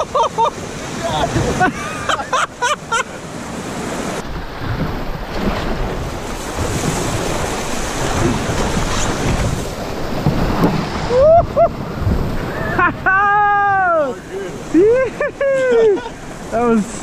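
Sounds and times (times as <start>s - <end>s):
rushing whitewater: 0.0s - 17.0s
water splashing: 0.0s - 17.0s.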